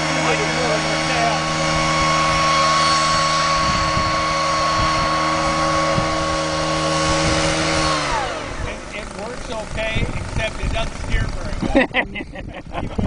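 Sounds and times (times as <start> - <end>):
leaf blower engine running: 0.0 - 13.0.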